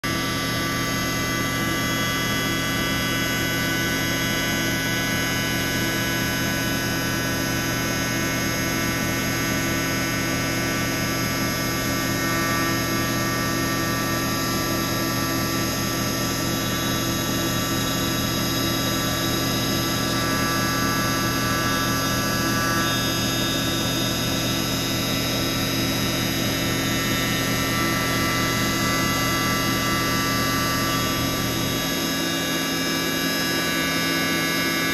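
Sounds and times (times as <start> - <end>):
milling machine whine: 0.1 - 34.9.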